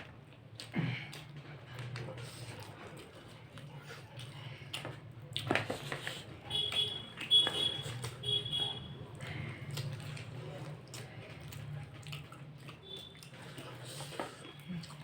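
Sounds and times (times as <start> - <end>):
eating sounds: 0.0 - 15.0.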